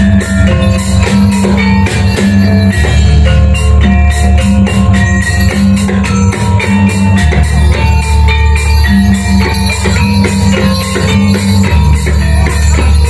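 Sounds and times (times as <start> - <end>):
gamelan music over sound system: 0.0 - 13.0.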